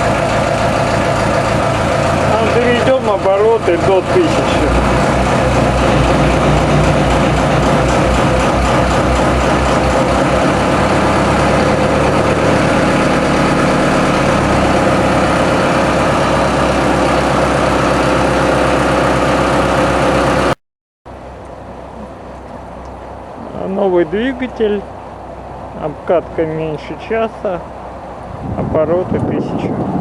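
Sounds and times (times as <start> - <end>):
marine diesel engine revving: 0.0 - 30.0.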